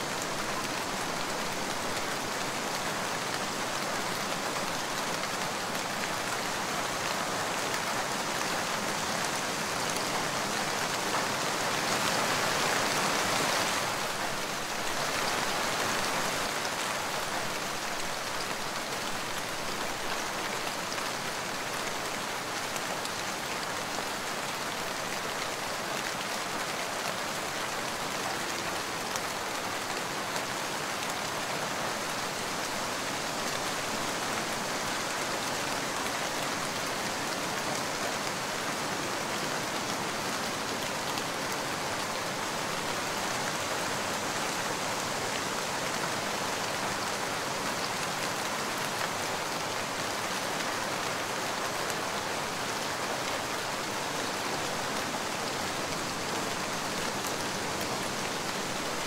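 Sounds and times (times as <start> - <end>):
rain on a hard surface: 0.0 - 59.0.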